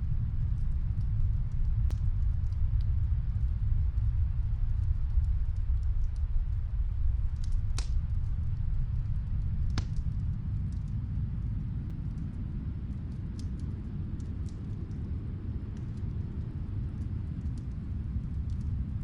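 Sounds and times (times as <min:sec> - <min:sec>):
snowstorm wind rumbling: 0:00.0 - 0:19.0
fireplace crackling: 0:00.3 - 0:19.0.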